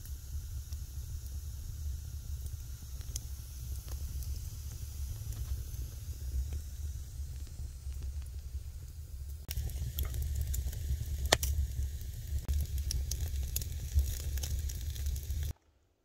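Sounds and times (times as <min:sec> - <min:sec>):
sharp pops of fire: 0:00.0 - 0:15.5
steady low rumble: 0:00.0 - 0:15.5
wood fire crackling: 0:00.0 - 0:15.6.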